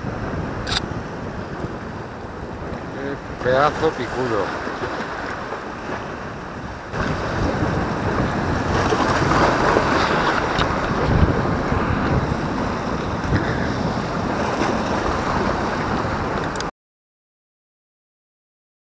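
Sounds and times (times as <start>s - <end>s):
waves splashing over rocks: 0.0s - 16.7s
wind buffeting microphone: 0.0s - 16.7s.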